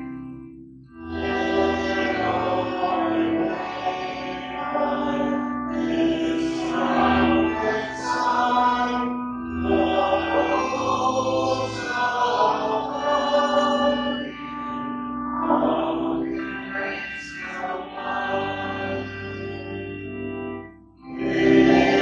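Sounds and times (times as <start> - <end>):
slow church music: 0.0 - 22.0.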